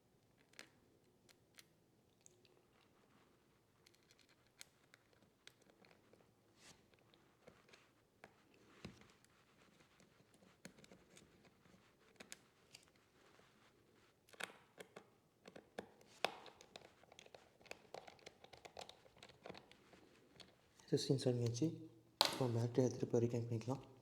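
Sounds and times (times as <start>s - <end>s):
small clicks and scrapes: 0.2s - 20.8s.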